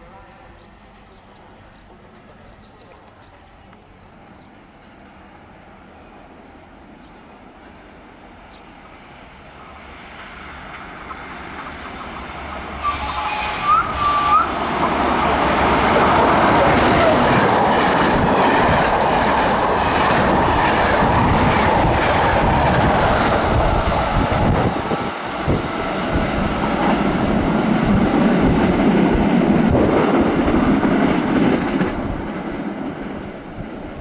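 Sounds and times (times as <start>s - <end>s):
passenger train passing: 0.0s - 34.0s.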